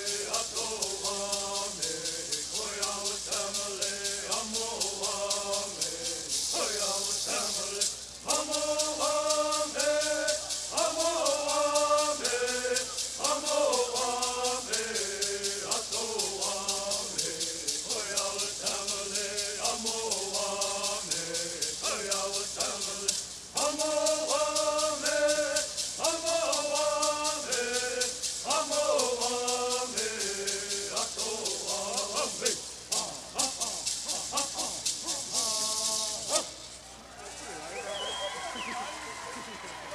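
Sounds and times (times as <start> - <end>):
group of singers chanting: 0.0 - 36.4
hand rattles shaking: 0.0 - 36.8.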